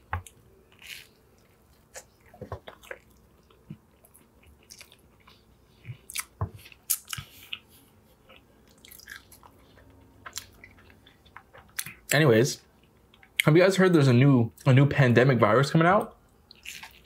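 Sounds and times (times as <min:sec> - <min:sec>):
person chewing food: 0:00.0 - 0:13.4, 0:16.2 - 0:17.0.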